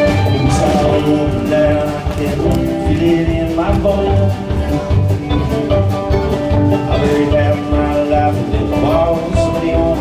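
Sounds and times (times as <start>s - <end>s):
bluegrass band playing: 0.0s - 10.0s.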